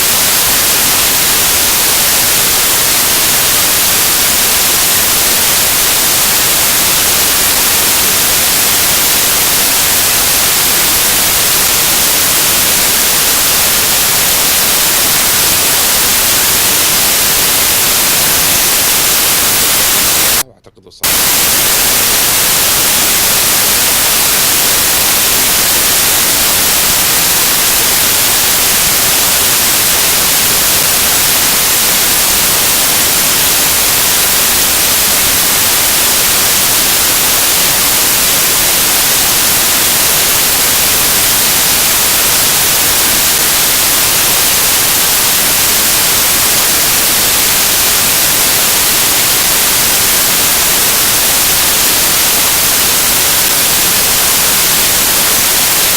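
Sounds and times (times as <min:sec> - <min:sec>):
static hiss: 0:00.0 - 0:20.4, 0:21.0 - 0:55.9.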